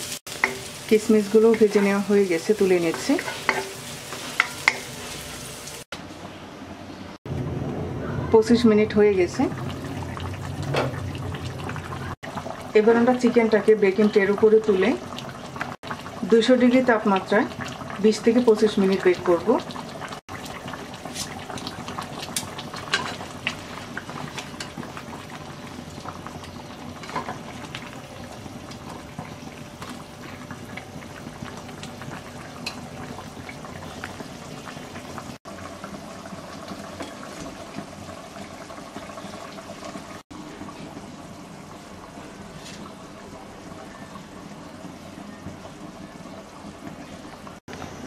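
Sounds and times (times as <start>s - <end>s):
broth bubbling in a pot: 8.9s - 48.0s.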